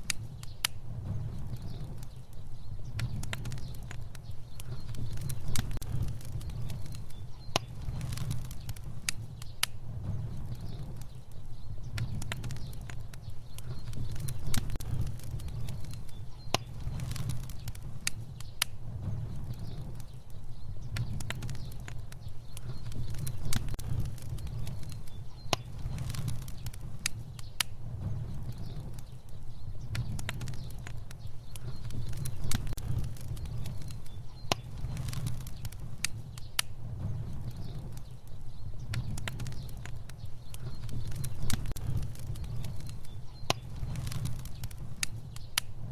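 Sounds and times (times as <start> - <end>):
fire burning and crackling: 0.0 - 45.9
low rumble of flames: 0.0 - 45.9.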